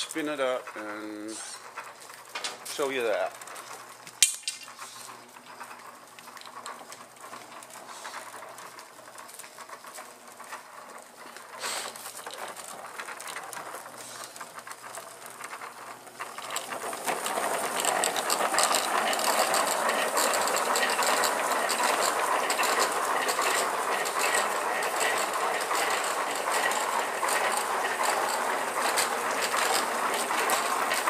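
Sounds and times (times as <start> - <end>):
chain and sprockets clattering: 0.0 - 31.0.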